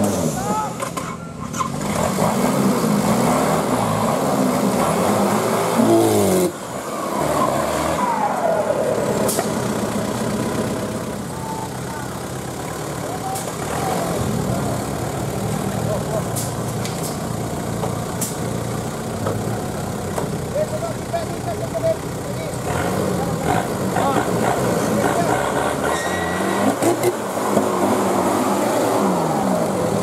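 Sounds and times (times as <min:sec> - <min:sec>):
off-road vehicle engine revving: 0:00.0 - 0:20.8, 0:21.6 - 0:30.0.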